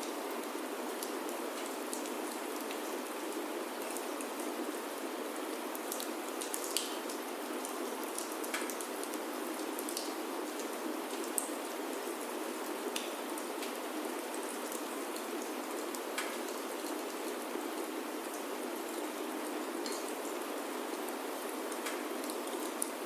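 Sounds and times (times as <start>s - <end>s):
rain on a wooden roof: 0.0s - 23.0s.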